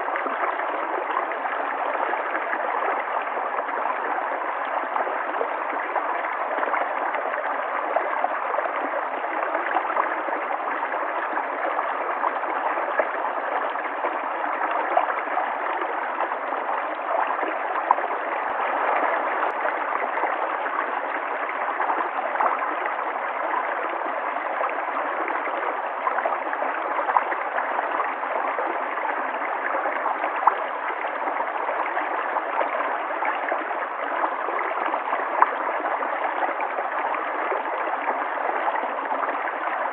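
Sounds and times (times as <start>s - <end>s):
water splashes and gurgles: 0.0s - 39.9s.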